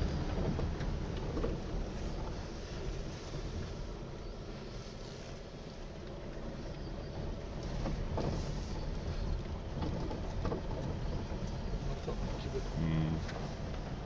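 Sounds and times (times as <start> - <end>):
car engine rumble: 0.0 - 14.0
water splashing around wheels: 0.0 - 14.0.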